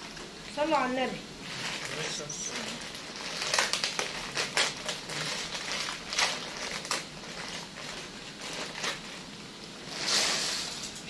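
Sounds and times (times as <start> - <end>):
plastic bag crinkling: 1.4 - 10.5.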